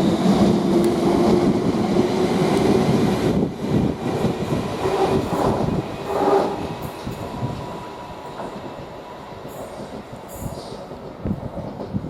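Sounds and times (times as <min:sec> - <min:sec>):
electric train pulling away: 0:00.0 - 0:11.0.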